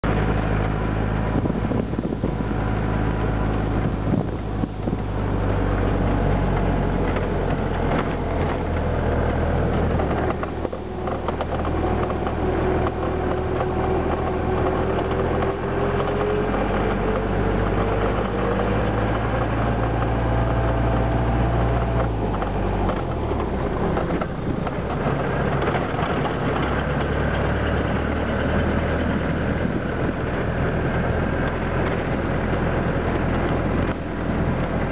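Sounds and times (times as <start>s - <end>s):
bus engine droning: 0.0s - 34.9s
rising whine: 0.0s - 34.9s.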